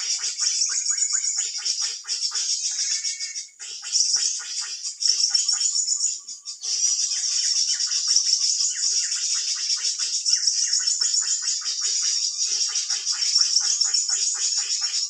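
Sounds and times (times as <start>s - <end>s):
bird chatter call: 0.0s - 15.0s.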